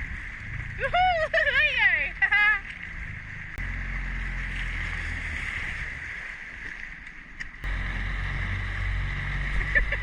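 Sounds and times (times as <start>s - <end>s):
outboard motor humming: 0.0s - 10.0s
wind and water hiss: 0.0s - 10.0s.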